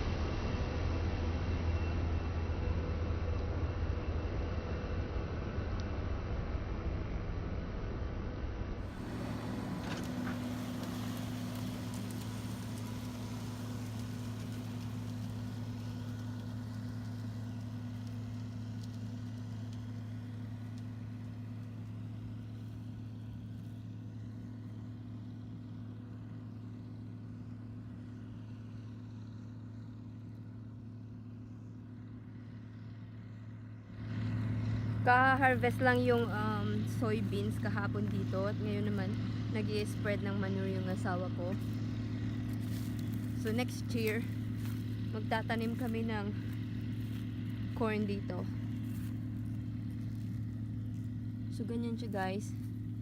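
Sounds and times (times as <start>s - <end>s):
tractor engine droning: 0.0s - 53.0s.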